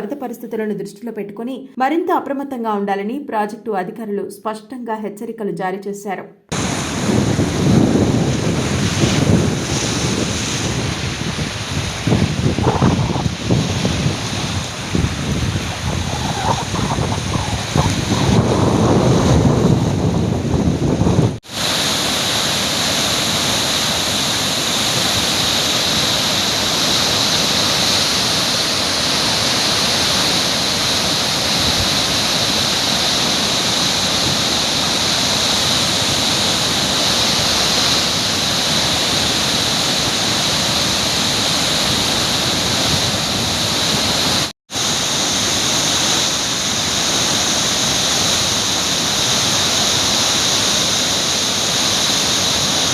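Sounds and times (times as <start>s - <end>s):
roar of falling water: 6.5s - 52.9s.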